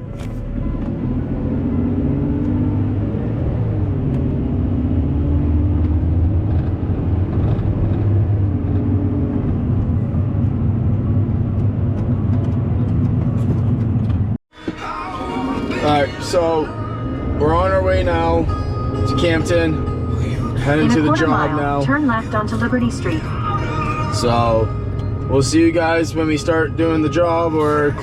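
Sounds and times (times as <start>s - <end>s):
car engine drone: 0.0s - 28.0s
road noise: 0.0s - 28.0s.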